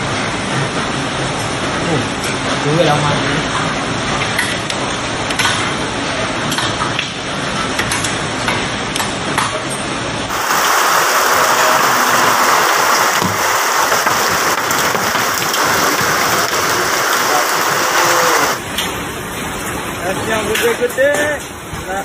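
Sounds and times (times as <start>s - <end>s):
heavy rain pouring: 0.0s - 22.0s
hailstones ticking: 0.1s - 9.5s, 10.3s - 22.0s.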